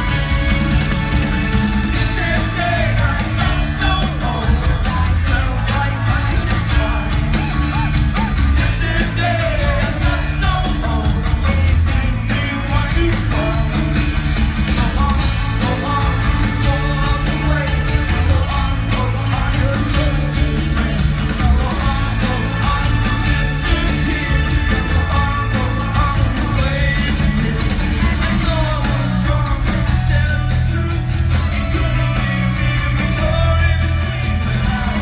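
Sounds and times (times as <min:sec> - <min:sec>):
live rock band playing: 0:00.0 - 0:35.0
man singing: 0:00.0 - 0:35.0.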